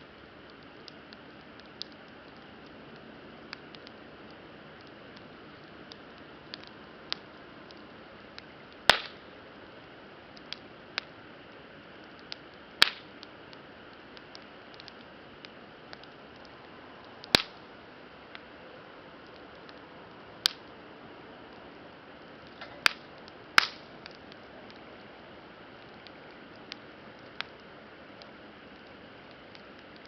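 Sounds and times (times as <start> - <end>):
loud sharp pops of fire: 0.0 - 18.5, 19.2 - 20.8, 22.0 - 30.0
campfire crackling: 0.0 - 30.0.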